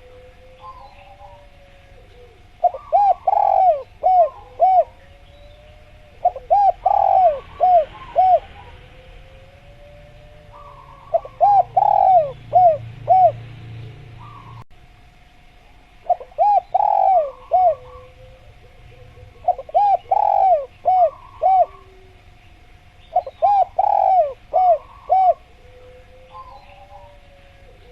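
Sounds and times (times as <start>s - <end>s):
dove cooing: 0.0s - 14.6s, 16.0s - 22.4s, 23.0s - 27.9s.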